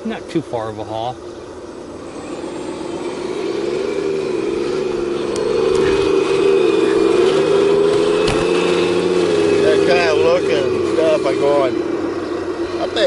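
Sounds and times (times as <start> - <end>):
heavy machinery engine droning: 0.0 - 13.0.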